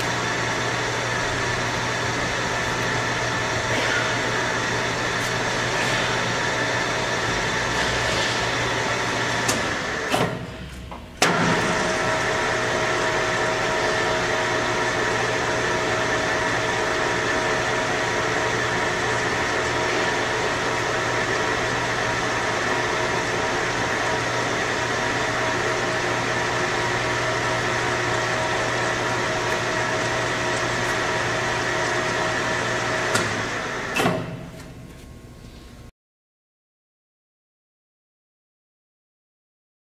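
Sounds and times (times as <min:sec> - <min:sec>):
lathe humming and whining: 0:00.0 - 0:35.4.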